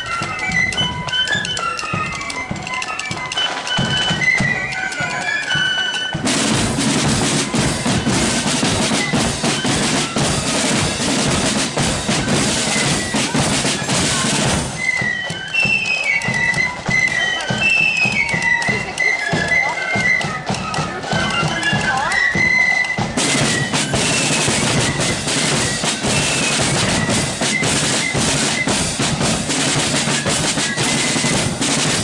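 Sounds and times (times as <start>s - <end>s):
flute melody: 0.0s - 32.0s
rolling snare drums: 0.0s - 32.0s.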